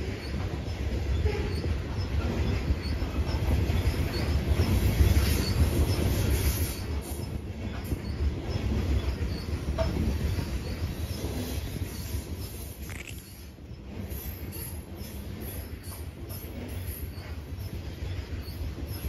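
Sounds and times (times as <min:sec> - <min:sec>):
high wheel squeaks: 0:00.0 - 0:19.0
train wheels rumbling on rail: 0:00.0 - 0:19.0.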